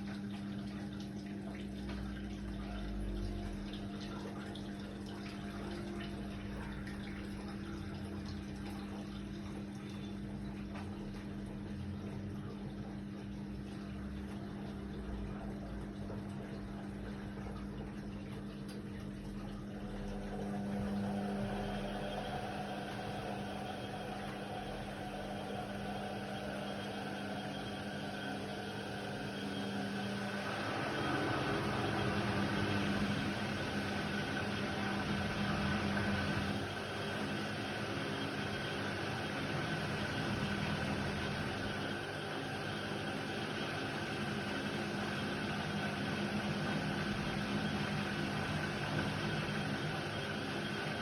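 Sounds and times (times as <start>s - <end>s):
washer-dryer motor hum: 0.0s - 51.0s.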